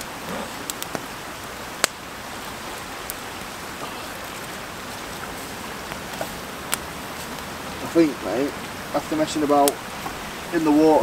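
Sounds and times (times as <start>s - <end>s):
burning sticks popping: 0.0s - 11.0s
campfire crackling: 0.0s - 11.0s.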